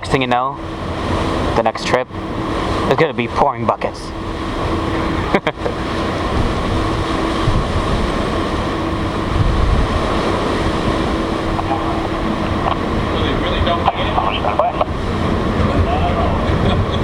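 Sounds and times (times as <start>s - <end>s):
low hum from ship: 0.0s - 17.0s
wind buffeting microphone: 0.0s - 17.0s.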